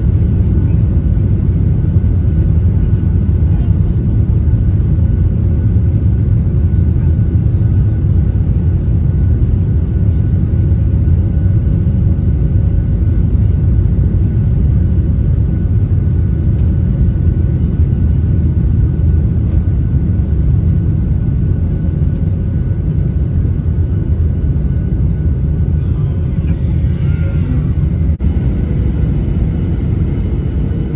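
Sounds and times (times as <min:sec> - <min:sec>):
airliner cabin rumble: 0:00.0 - 0:30.9.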